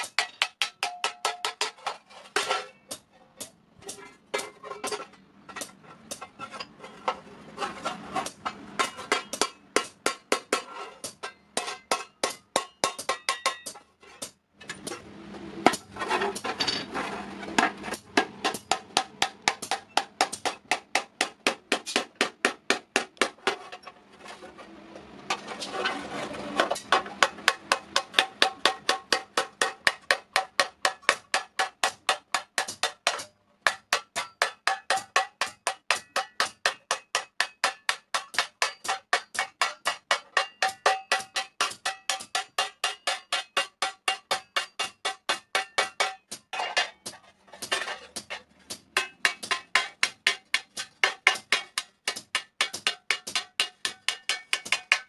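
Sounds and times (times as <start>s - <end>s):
hammer striking metal plate: 0.0s - 6.4s, 8.2s - 15.0s, 17.6s - 23.9s, 26.6s - 55.0s.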